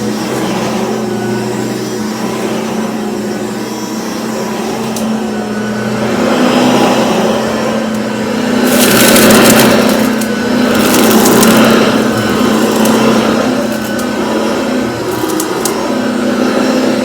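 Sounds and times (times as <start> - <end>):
stick vacuum cleaner running: 0.0 - 17.0.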